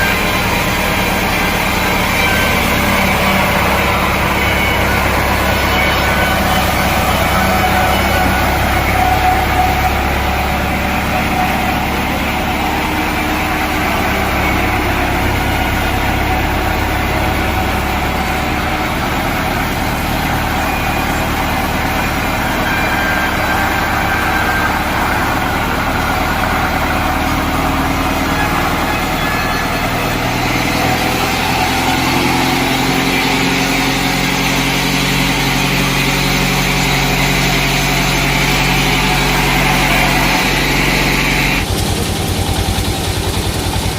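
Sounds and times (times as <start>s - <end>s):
sawmill machinery droning: 0.0s - 43.9s.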